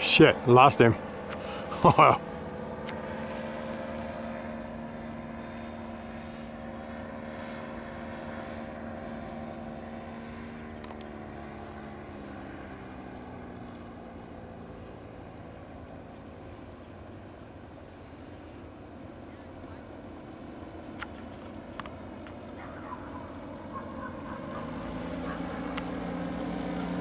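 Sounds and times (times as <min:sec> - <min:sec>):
engine and propeller droning overhead: 0:00.0 - 0:27.0.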